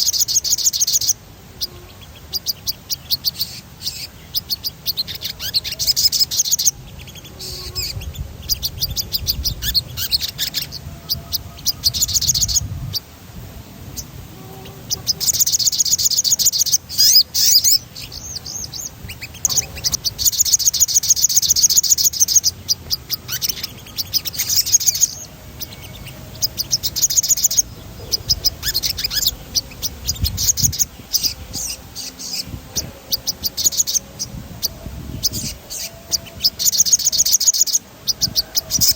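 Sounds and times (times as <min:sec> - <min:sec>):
songbird singing trills: 0:00.0 - 0:38.9.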